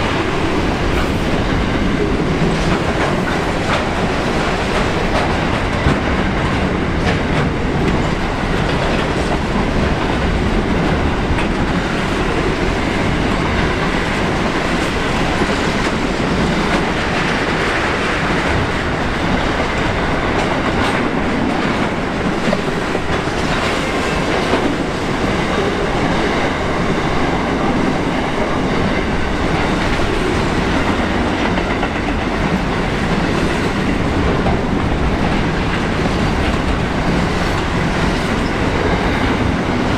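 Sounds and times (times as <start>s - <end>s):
steel wheels rolling on rail: 0.0s - 39.9s.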